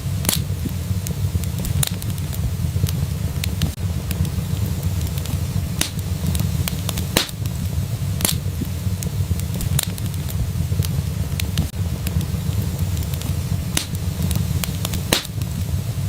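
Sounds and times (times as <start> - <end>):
fire snaps: 0.0 - 16.0
wood fire crackling: 0.0 - 16.0.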